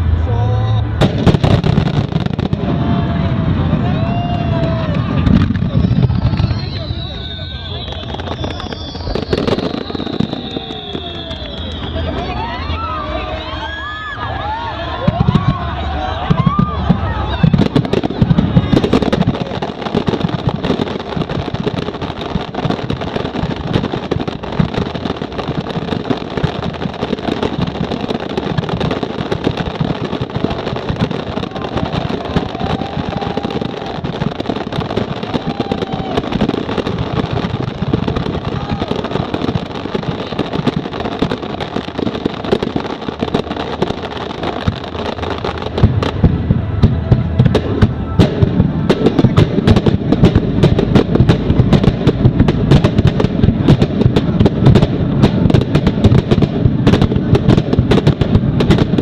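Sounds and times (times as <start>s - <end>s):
deep firework booms: 0.8s - 12.0s, 15.0s - 59.0s
firework shell bursts and crackling: 1.0s - 12.4s, 16.2s - 59.0s.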